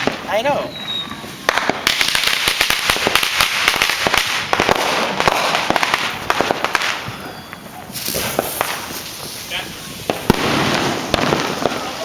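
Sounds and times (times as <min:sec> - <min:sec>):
firecrackers popping: 0:00.0 - 0:12.0.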